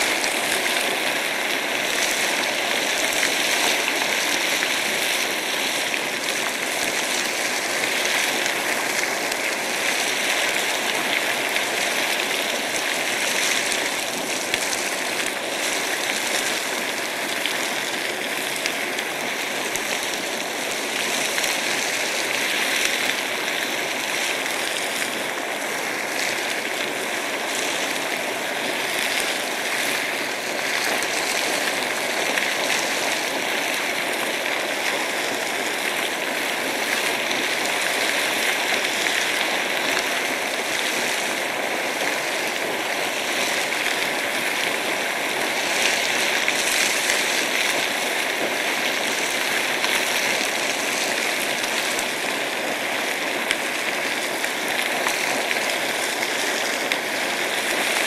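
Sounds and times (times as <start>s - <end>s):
geyser water rushing and splashing: 0.0s - 58.0s.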